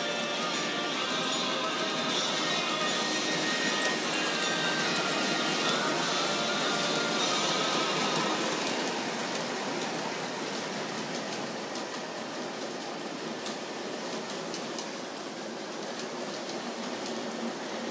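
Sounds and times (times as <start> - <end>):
model train wheels clattering: 0.6 - 17.9.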